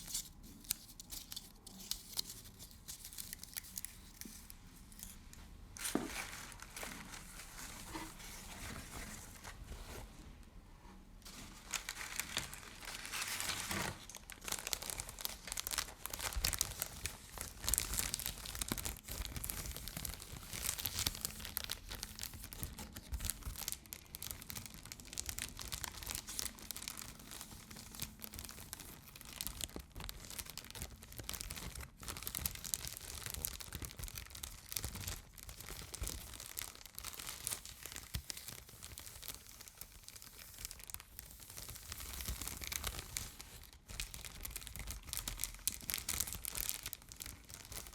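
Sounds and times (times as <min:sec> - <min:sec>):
crinkly material rustling: 0:00.0 - 0:47.9.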